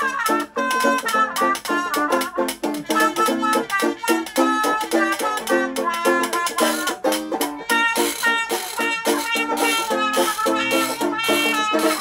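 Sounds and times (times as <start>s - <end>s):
muted trumpet melody: 0.0s - 12.0s
strummed guitar chords: 0.0s - 12.0s.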